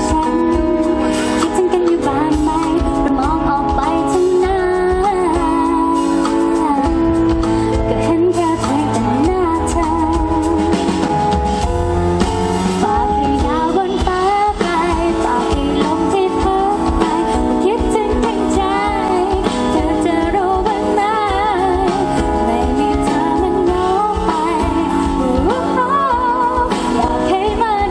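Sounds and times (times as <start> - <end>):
woman singing pop ballad: 0.0 - 11.7, 12.6 - 27.9
band bass and drums: 0.0 - 27.9.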